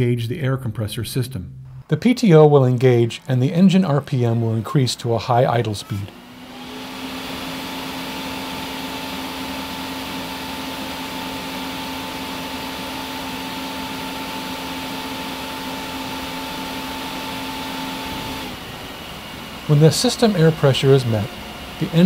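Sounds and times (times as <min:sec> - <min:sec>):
air compressor whine: 0:02.9 - 0:22.0.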